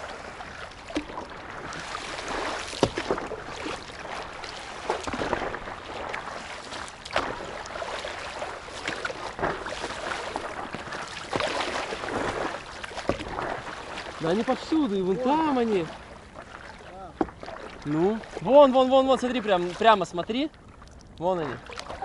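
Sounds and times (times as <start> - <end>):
water splashing along paddleboard: 0.0 - 22.0.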